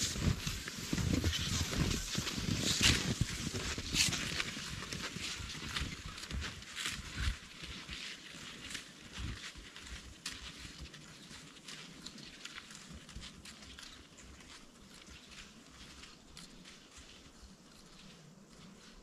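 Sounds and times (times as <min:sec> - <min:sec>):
snowshoes crunching through snow: 0:00.0 - 0:19.0.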